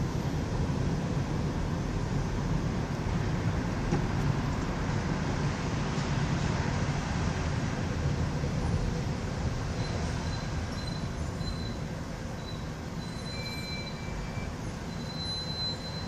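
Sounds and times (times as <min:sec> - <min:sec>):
vehicles crossing bridge rumble: 0:00.0 - 0:16.0.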